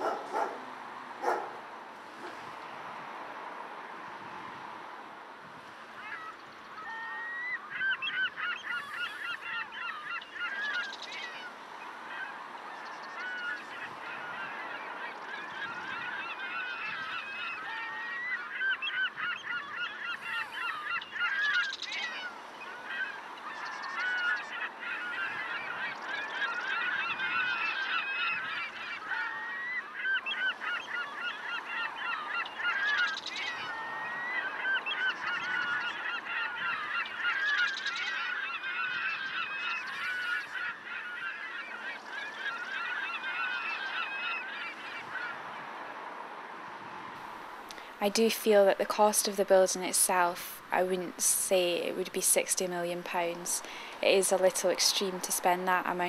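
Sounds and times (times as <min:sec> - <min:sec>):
flock of birds calling: 0:00.0 - 0:03.4, 0:05.6 - 0:56.0.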